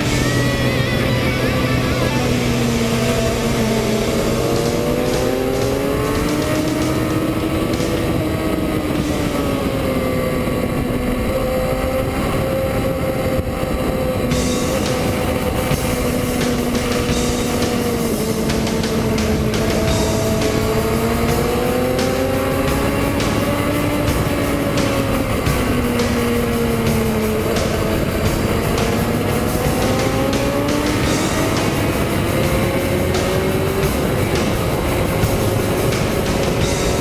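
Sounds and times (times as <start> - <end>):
motorcycle engine at speed: 0.0 - 37.0.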